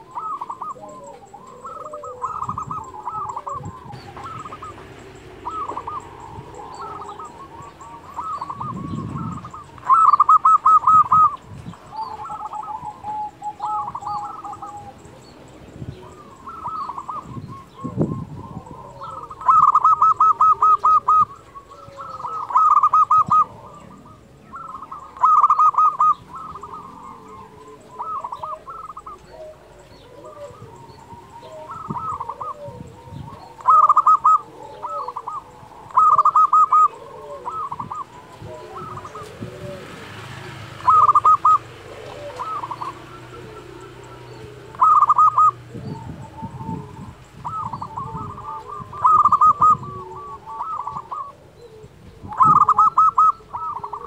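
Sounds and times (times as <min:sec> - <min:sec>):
dove cooing trilled song: 0:00.0 - 0:54.0.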